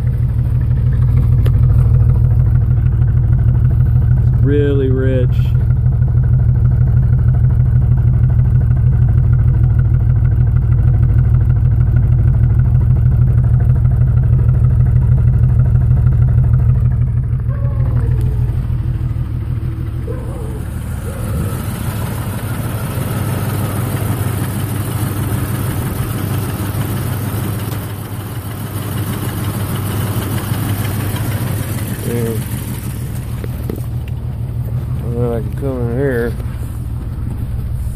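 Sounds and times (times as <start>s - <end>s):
engine idling roughly: 0.0s - 37.9s.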